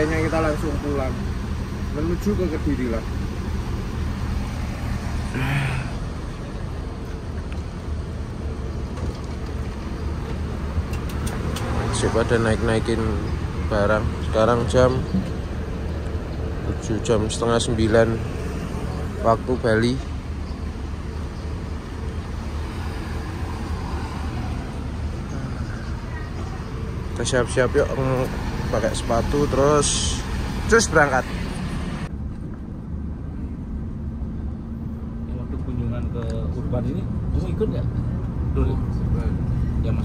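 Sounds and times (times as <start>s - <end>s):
engine low rumble: 0.0s - 40.0s.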